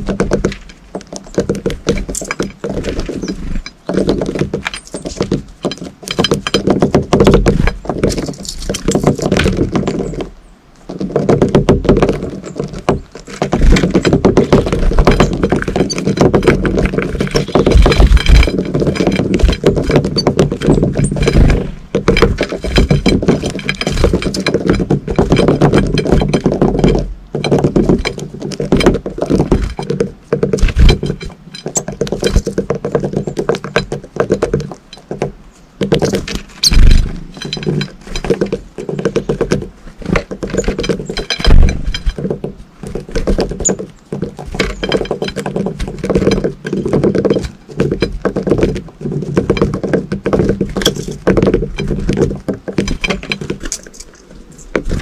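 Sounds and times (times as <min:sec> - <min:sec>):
birds pecking on ceramic plate: 0:00.0 - 0:55.0.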